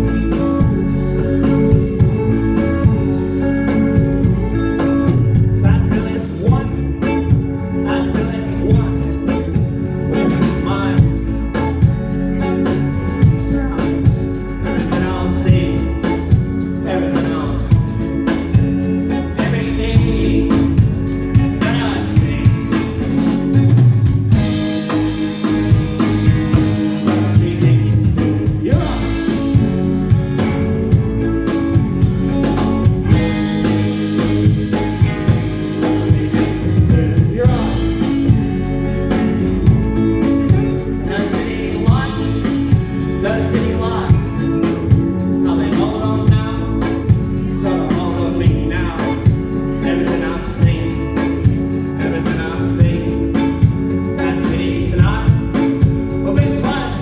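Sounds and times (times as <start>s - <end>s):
drum kit beat: 0.0s - 57.0s
electric guitar: 0.0s - 57.0s
person singing: 0.0s - 57.0s.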